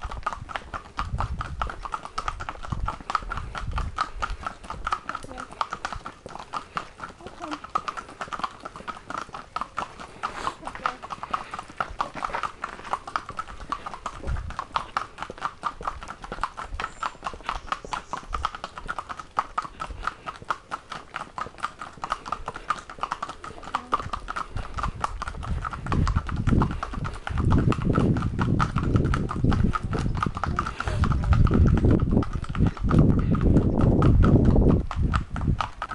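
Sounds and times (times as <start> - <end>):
hooves clip-clopping on tarmac: 0.0 - 35.9.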